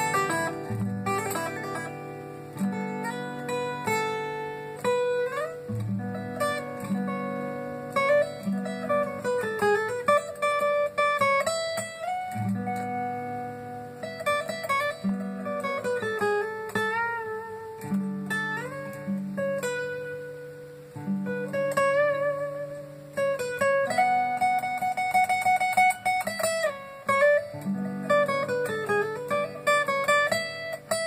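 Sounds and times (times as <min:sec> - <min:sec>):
acoustic guitar piece: 0:00.0 - 0:31.0.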